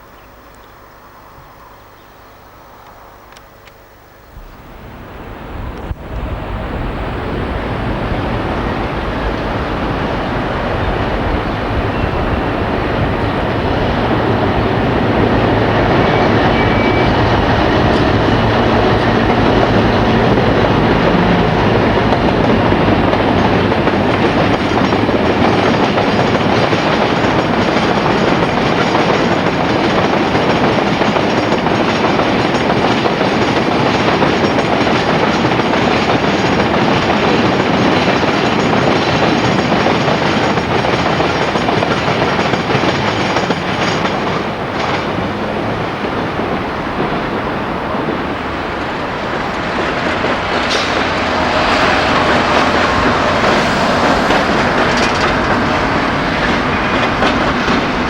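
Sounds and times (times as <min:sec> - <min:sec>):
train wheels clickety-clack: 0:05.8 - 0:58.0.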